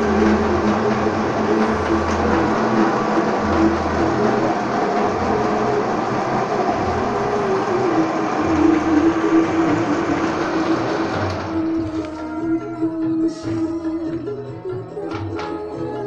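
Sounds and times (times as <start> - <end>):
lathe whirring: 0.0 - 16.0.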